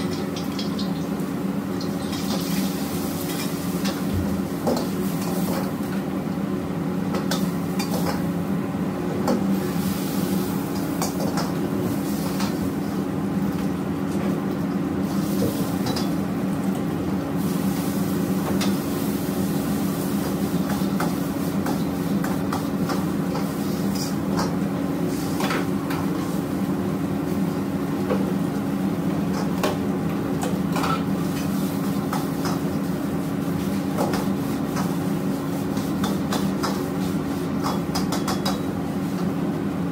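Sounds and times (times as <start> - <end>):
gas burner roaring: 0.0 - 39.9.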